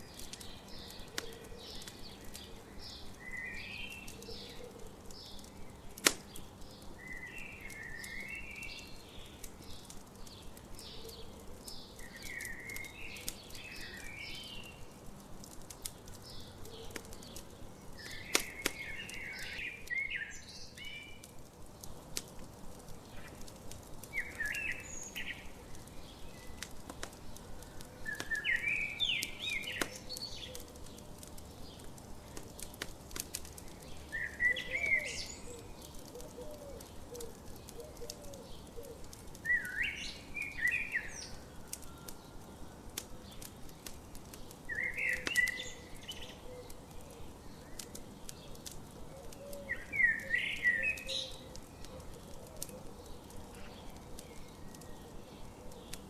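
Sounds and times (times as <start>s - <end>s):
campfire popping and crackling: 0.0s - 56.0s
songbird singing: 0.0s - 56.0s.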